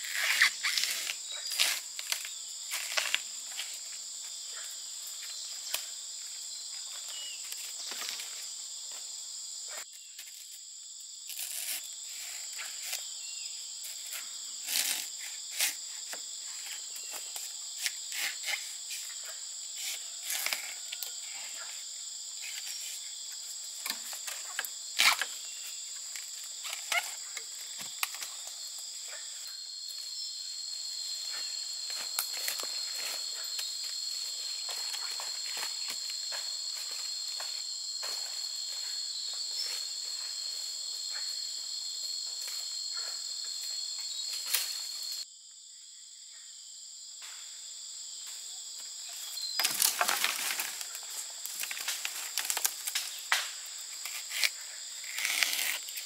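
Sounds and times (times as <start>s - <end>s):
insects shrilling: 0.0s - 8.6s, 11.2s - 41.3s, 49.0s - 56.0s.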